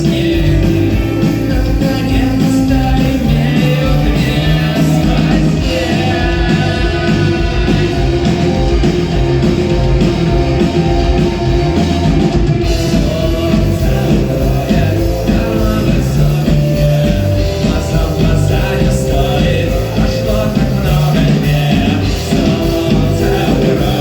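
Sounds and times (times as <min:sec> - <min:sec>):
person singing: 0:00.0 - 0:09.4, 0:12.7 - 0:24.0
rock band playing: 0:00.0 - 0:24.0.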